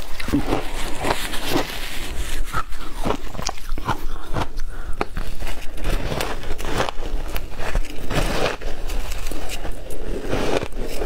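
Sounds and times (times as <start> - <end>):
ice being crunched and chewed: 0.0 - 11.0.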